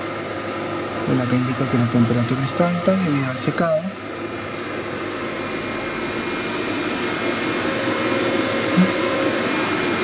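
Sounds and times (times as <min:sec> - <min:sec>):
machine whirring air noise: 0:00.0 - 0:10.0.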